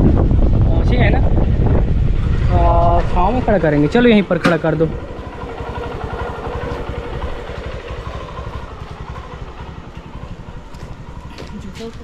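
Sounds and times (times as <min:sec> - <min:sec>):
motorcycle engine idling: 0:01.0 - 0:12.0.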